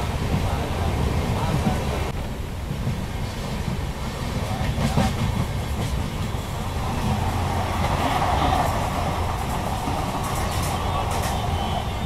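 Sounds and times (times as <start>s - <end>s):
train passing close by: 0.0s - 12.0s
train running over rails: 0.0s - 12.0s.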